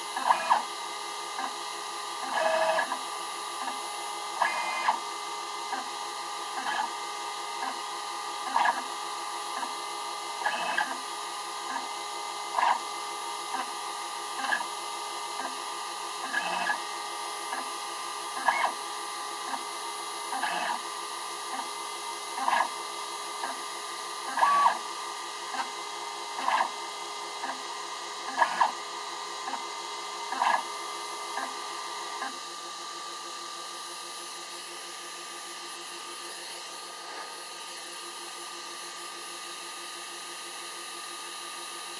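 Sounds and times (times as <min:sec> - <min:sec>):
stepper motor whirs: 0:00.0 - 0:41.9.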